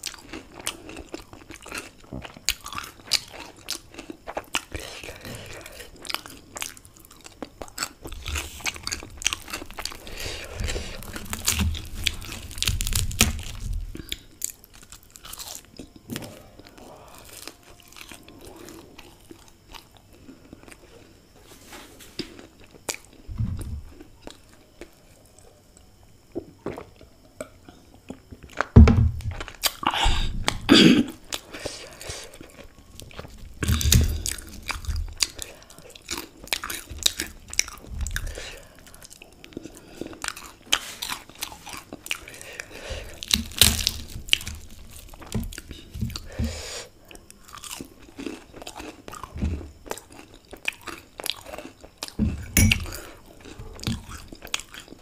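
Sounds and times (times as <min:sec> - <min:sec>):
crunching and chewing pastry: 0:00.0 - 0:55.0.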